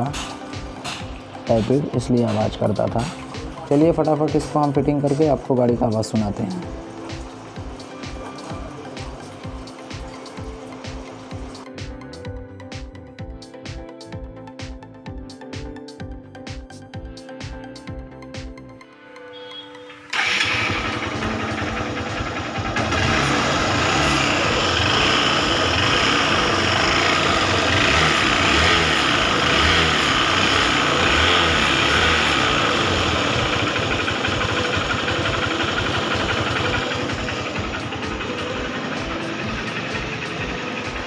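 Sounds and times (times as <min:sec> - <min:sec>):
motorcycle engine running: 0:00.0 - 0:12.0, 0:20.1 - 0:41.0.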